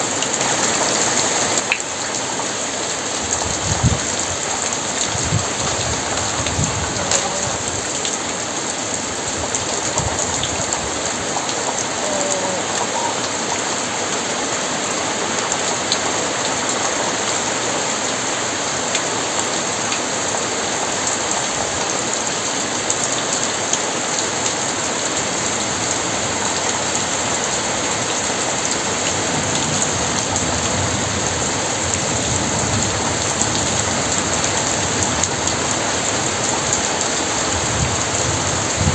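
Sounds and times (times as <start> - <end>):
very heavy rain: 0.0 - 38.9.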